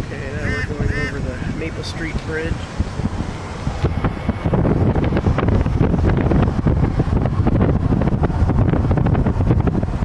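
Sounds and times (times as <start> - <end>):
low road rumble: 0.0 - 10.0
wind buffeting microphone: 0.0 - 10.0.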